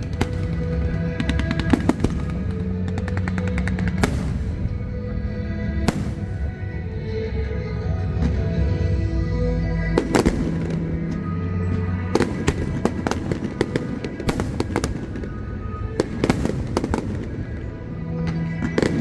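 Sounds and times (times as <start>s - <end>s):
fireworks cracking and banging: 0.0s - 6.9s, 10.0s - 19.0s
music over loudspeakers: 0.0s - 19.0s.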